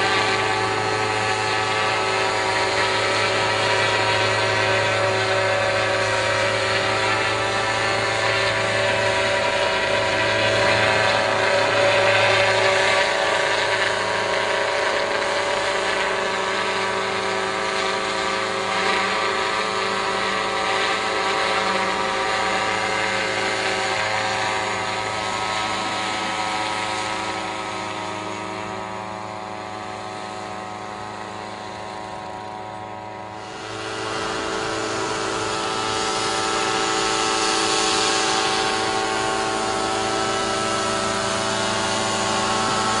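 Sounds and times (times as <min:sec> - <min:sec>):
sprayer motor running: 0:00.0 - 0:43.0.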